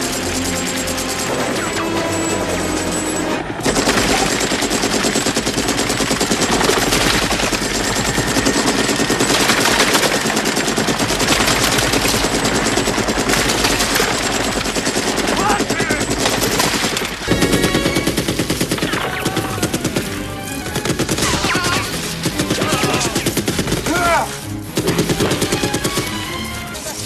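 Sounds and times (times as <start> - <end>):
machine gun automatic bursts: 0.0 - 27.0.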